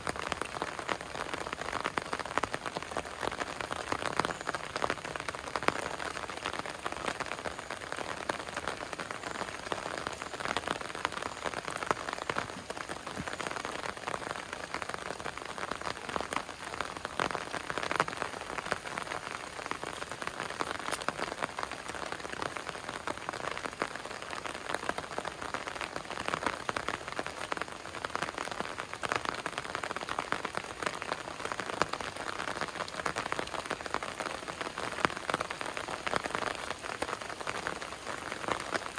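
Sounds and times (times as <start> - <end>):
heavy rain hiss: 0.0 - 38.9
raindrops hitting a surface: 0.0 - 38.9.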